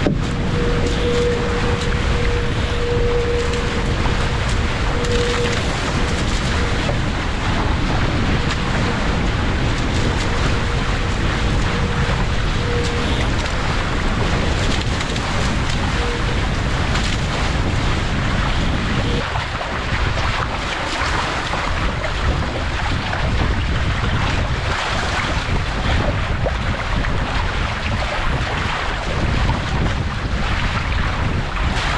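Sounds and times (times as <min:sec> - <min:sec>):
water rushing past hulls: 0:00.0 - 0:31.9
wind buffeting microphone: 0:00.0 - 0:31.9.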